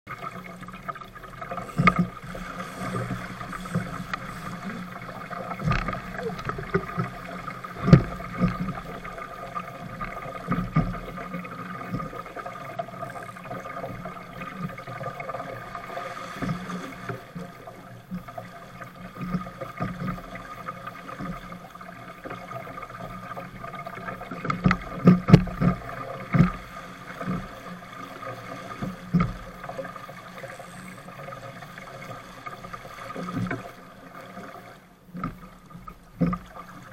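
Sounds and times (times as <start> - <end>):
water splashing along hull: 0.1 - 36.9.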